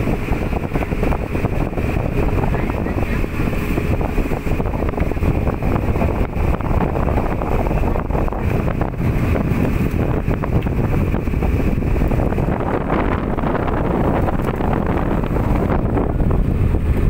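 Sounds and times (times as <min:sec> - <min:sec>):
small boat engine running: 0:00.0 - 0:17.0
wind buffeting microphone: 0:00.0 - 0:17.0.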